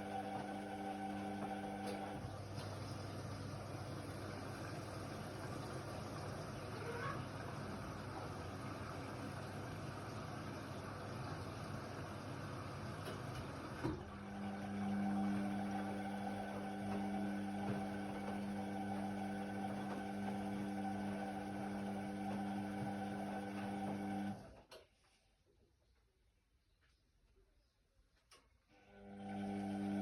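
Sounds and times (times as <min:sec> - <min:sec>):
washer-dryer electric hum: 0:00.0 - 0:24.8, 0:28.7 - 0:30.0.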